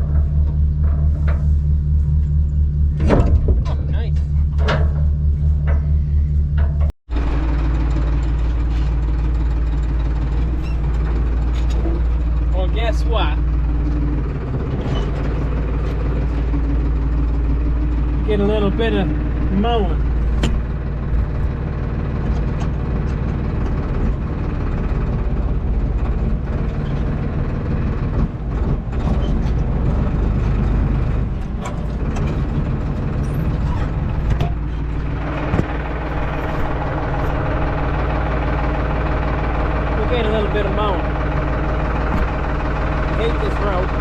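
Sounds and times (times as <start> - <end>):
knocks and rattles: 0.0 - 44.0
tractor engine running: 0.0 - 44.0.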